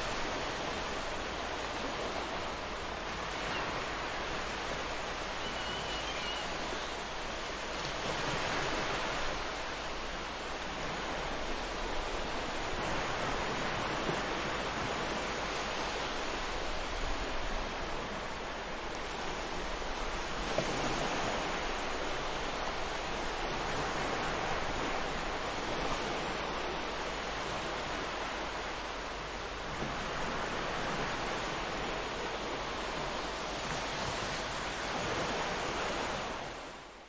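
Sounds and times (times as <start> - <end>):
waves breaking on a beach: 0.0 - 37.0.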